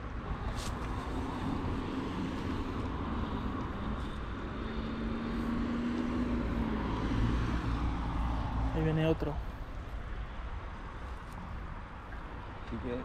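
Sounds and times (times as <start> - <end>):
distant engine hum: 0.0 - 12.9
outdoor background rush: 0.0 - 13.0.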